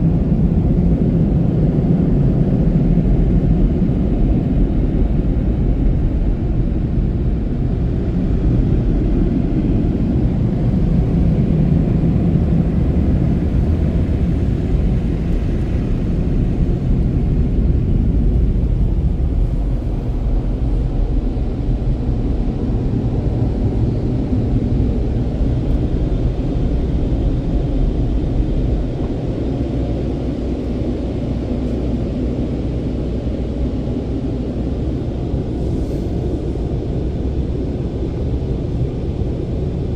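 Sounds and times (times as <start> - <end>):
car wash machinery rumbling: 0.0 - 39.9.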